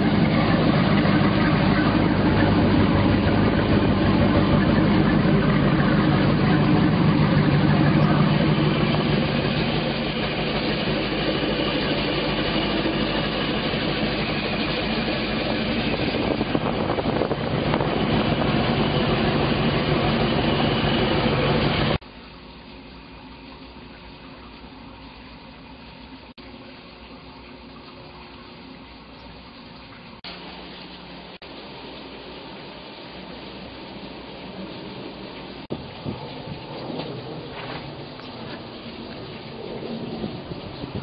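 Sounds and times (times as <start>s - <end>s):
boat engine running: 0.0s - 41.0s.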